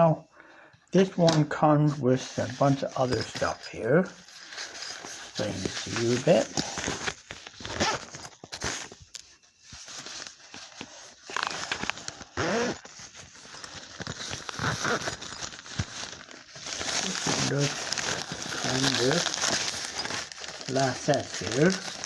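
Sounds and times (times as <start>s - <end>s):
packaging rustling and crinkling: 2.2s - 22.0s.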